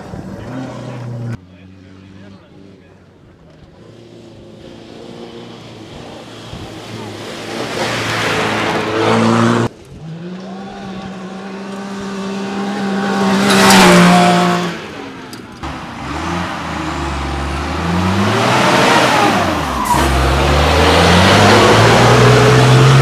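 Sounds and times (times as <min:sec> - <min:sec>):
rally car engine at full throttle: 0:00.0 - 0:23.0.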